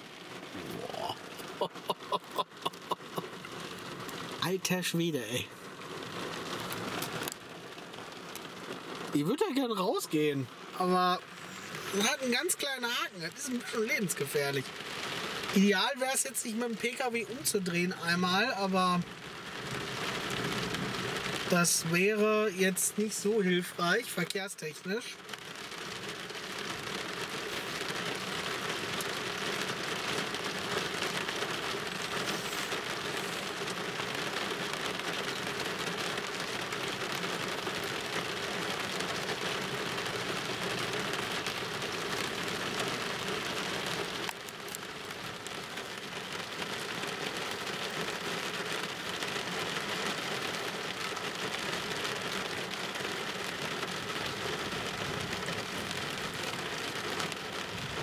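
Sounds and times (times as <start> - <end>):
rain falling on a car: 0.0 - 58.0.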